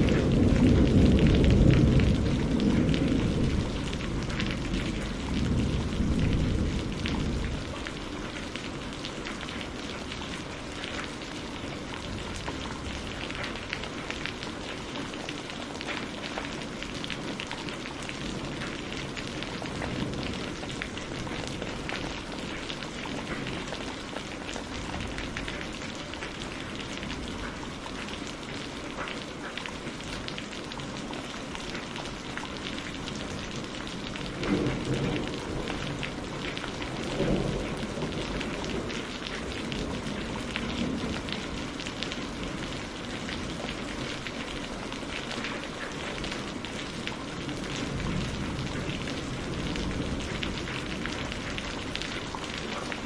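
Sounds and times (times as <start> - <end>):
low rumbles of thunder: 0.0 - 15.2, 15.8 - 27.6, 33.1 - 53.0
steady rain patter: 0.0 - 53.0.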